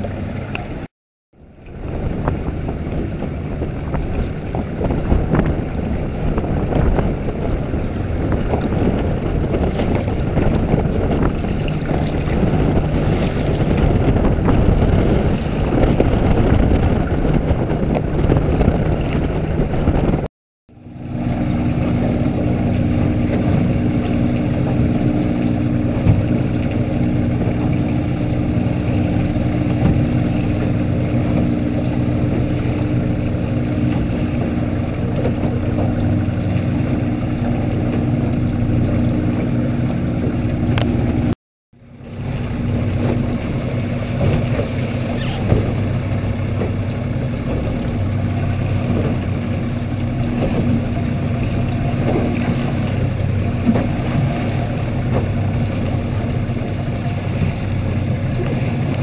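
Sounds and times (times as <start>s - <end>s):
motorboat engine droning: 0.0s - 59.0s
water noise: 0.0s - 59.0s.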